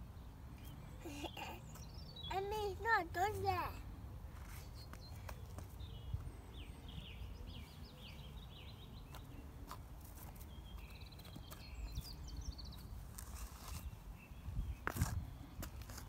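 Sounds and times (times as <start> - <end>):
songbird singing: 0.0 - 3.7, 4.4 - 16.0.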